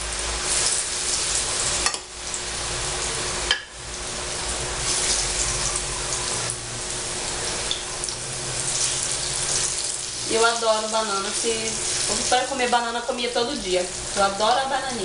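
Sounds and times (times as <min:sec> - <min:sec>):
plantain frying in a pan: 0:00.0 - 0:15.0.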